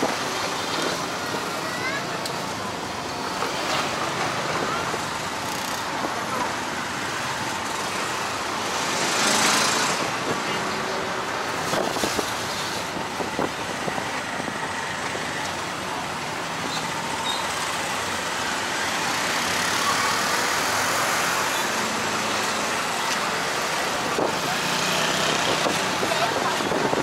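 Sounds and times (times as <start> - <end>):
cars and motorbikes passing: 0.0 - 27.0
city traffic noise: 0.0 - 27.0.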